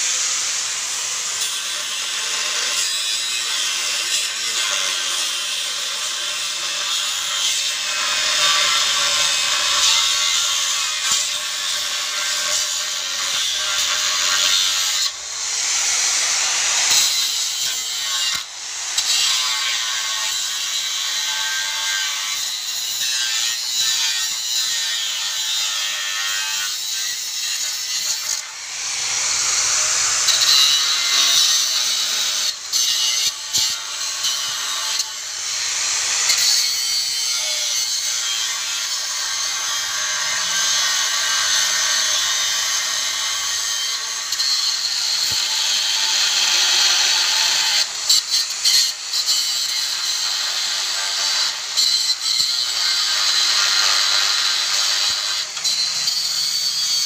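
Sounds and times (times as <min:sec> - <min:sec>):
angle grinder cutting steel: 0:00.0 - 0:57.0.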